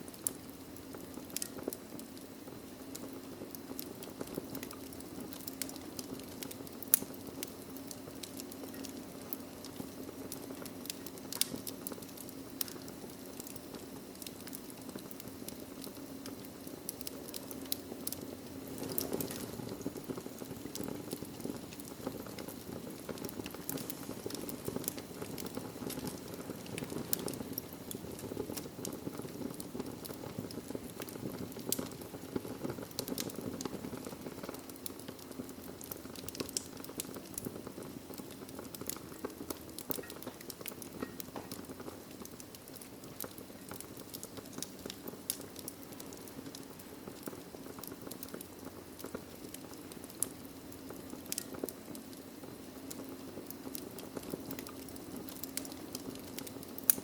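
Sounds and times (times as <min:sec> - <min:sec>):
fire crackling and popping: 0:00.0 - 0:57.0
low rush of flames: 0:00.0 - 0:57.0.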